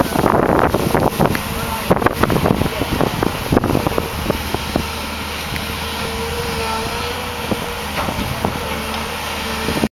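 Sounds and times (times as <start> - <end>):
excavator diesel engine running: 0.0 - 9.9.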